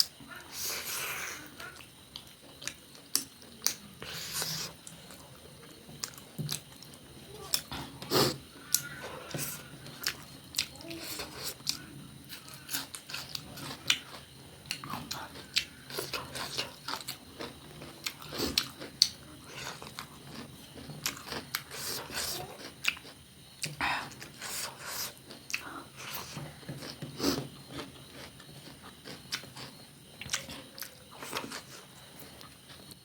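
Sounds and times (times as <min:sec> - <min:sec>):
person chewing crunchy food: 0:01.6 - 0:33.0.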